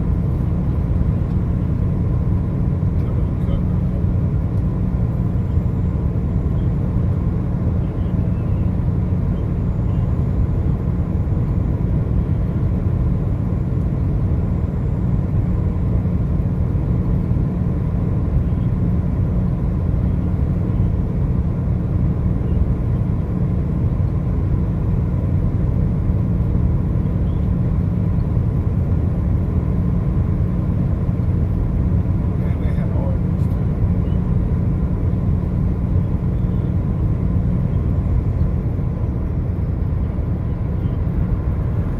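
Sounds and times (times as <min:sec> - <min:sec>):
road noise: 0:00.0 - 0:41.9
vehicle engine rumble: 0:00.0 - 0:41.9.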